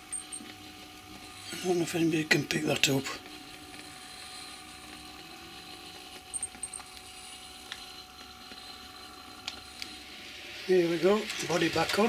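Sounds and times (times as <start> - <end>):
model train motor whirring: 1.1 - 12.0.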